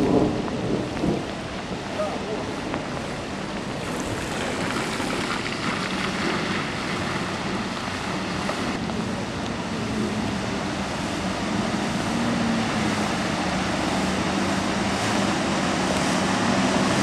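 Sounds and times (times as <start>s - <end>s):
water splashing from wheels: 0.0s - 17.0s.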